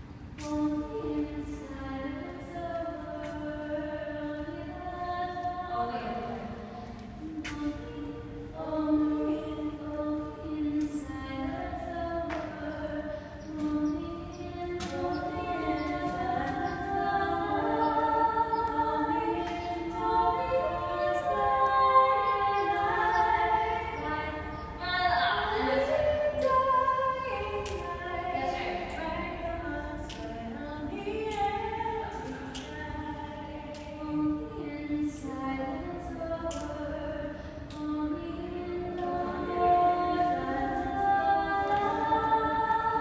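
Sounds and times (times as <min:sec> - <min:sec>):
voices singing long held notes: 0:00.0 - 0:43.0.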